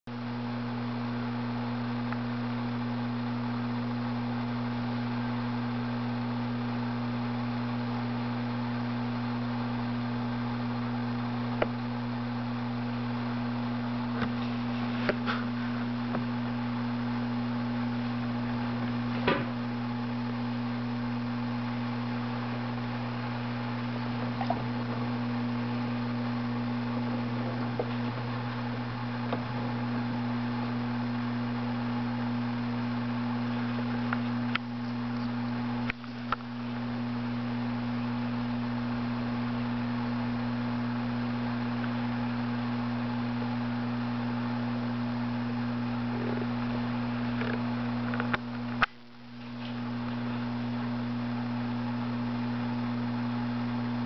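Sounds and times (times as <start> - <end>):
aquarium filter pump hum: 0.1 - 54.0.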